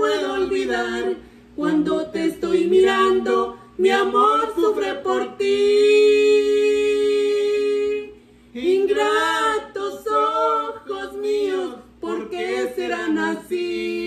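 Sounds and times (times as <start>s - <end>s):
woman singing: 0.0s - 14.0s.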